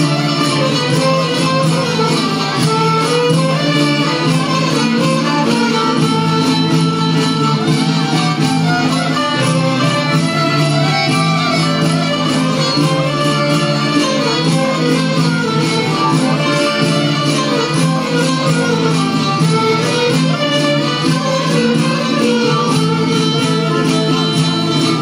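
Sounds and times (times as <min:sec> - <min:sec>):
accordion: 0:00.0 - 0:25.0
guitar: 0:00.0 - 0:25.0
jingling frame drum: 0:00.0 - 0:25.0
violins: 0:00.0 - 0:25.0.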